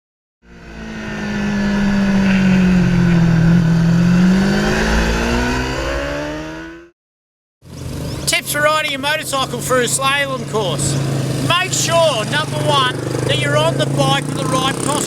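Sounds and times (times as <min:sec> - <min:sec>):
motorcycle engine revving: 0:00.4 - 0:07.0, 0:07.6 - 0:15.0.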